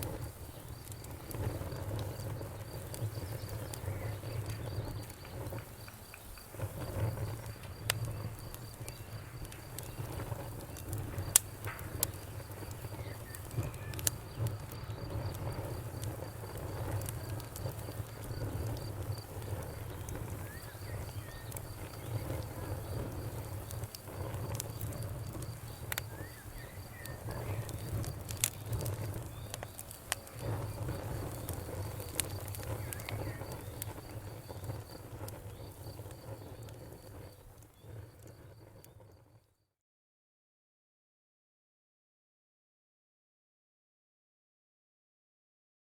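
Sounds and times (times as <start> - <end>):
wood fire crackling: 0.0 - 39.3
cricket chirping: 0.1 - 39.2.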